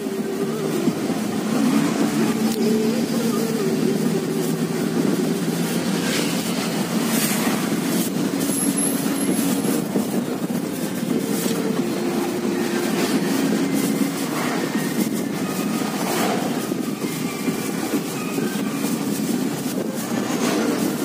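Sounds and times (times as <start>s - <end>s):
car engine and tyre drone: 0.0s - 21.0s
passing traffic rushes: 0.0s - 21.0s.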